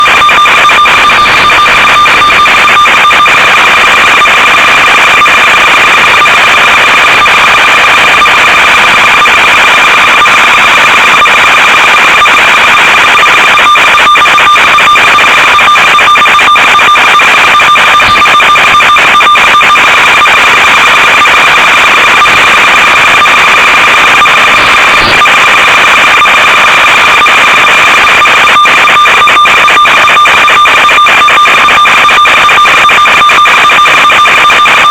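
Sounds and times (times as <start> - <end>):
electronic buzz with crackle: 0.0 - 34.9.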